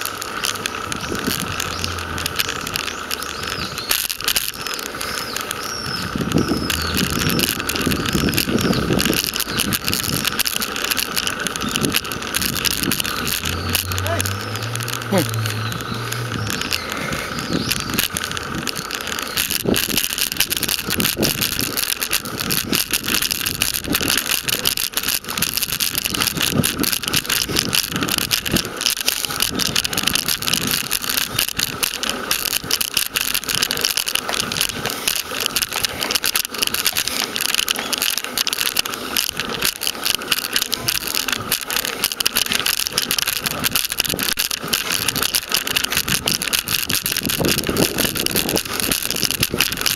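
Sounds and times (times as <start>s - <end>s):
bicycle rattling: 0.0s - 49.9s
tyre noise on rough concrete: 0.0s - 49.9s.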